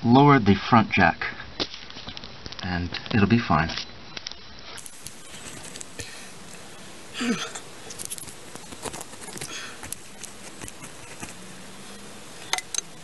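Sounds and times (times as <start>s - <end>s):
handling clicks and rustles: 1.6s - 6.7s, 7.3s - 13.0s.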